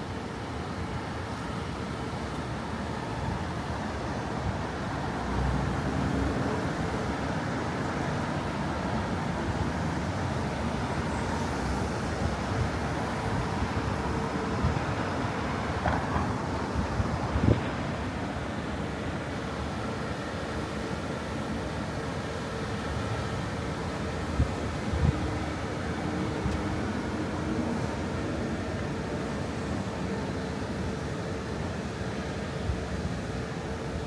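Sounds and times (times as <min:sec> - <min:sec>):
passing traffic hum: 0:00.1 - 0:34.0.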